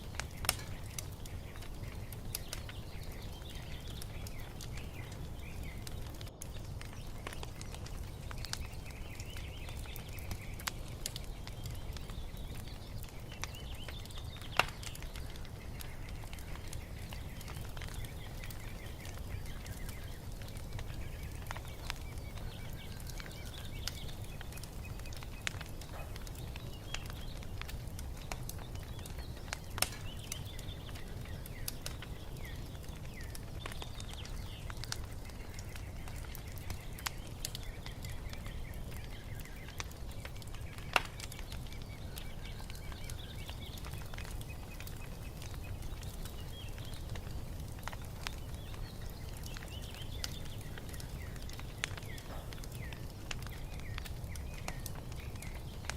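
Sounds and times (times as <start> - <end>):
small birds chirping: 0.0 - 55.9
wood fire crackling and popping: 0.0 - 55.9.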